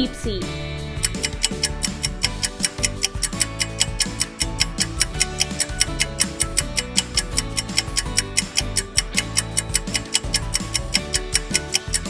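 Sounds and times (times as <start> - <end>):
countdown timer ticking: 0.0 - 12.0
light background music: 0.0 - 12.0.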